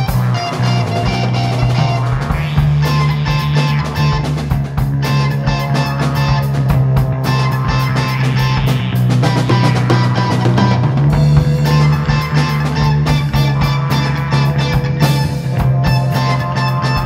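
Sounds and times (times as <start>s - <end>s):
bass line: 0.0s - 17.0s
drum kit hits: 0.0s - 17.0s
electric guitar: 0.0s - 17.0s.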